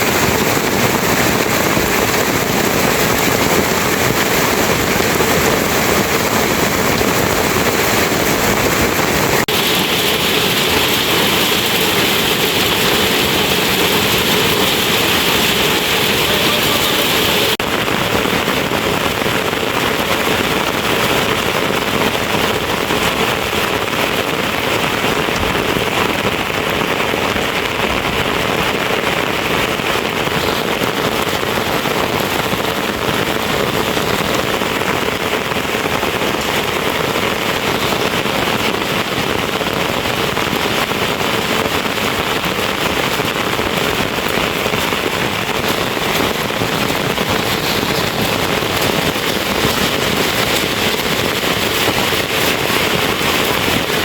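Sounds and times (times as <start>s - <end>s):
dense crackling hiss: 8.5s - 54.0s.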